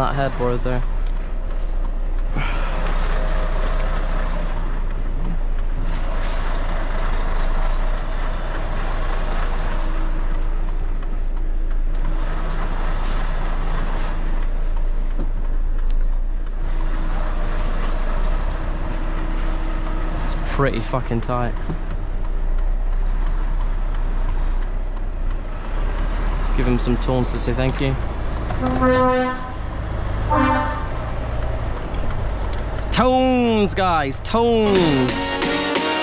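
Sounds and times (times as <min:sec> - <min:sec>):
diesel lorry engine running: 0:00.0 - 0:36.0.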